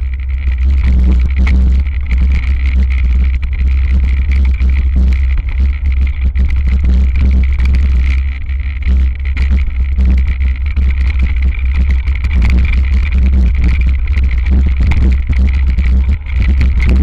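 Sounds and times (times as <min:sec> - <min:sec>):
bike rattling and knocking: 0:00.0 - 0:17.0
wind rumble on microphone: 0:00.0 - 0:17.0.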